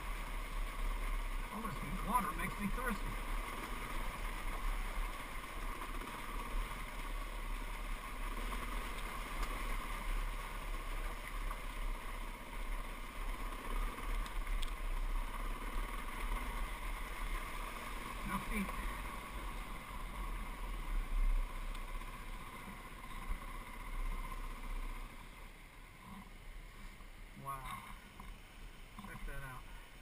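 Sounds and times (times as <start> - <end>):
dirt bike engine running: 0.0 - 28.4.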